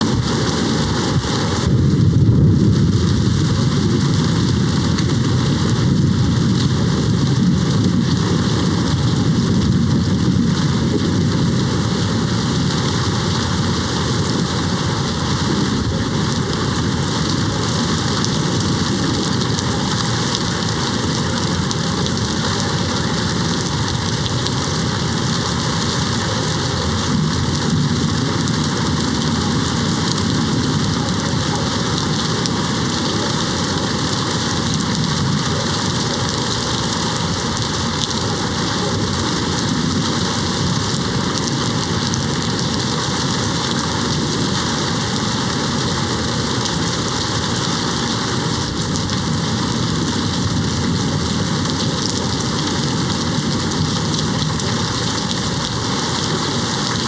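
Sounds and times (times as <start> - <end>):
heavy rain: 0.0 - 57.0
low rolling thunder: 0.0 - 57.0.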